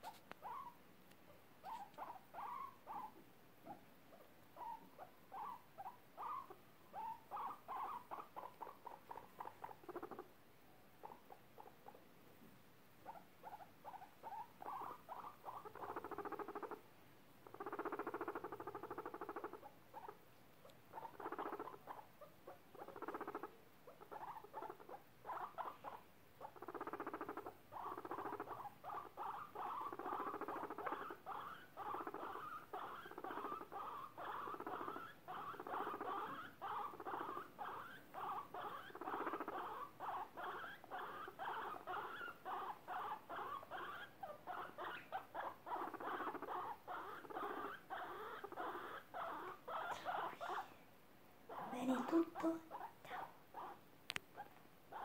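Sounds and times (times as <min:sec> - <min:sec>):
guinea pig purring: 0:00.0 - 0:12.1, 0:13.0 - 0:50.8, 0:51.4 - 0:55.0.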